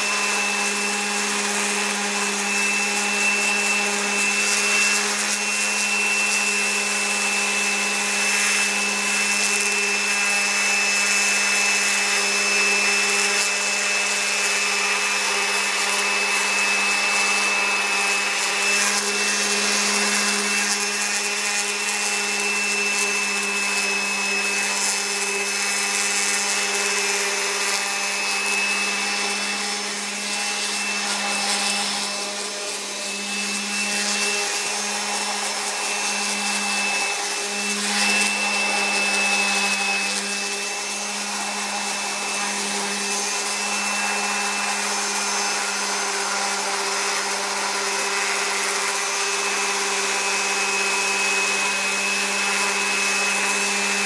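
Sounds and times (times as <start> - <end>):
electric sander on wood: 0.0 - 54.0.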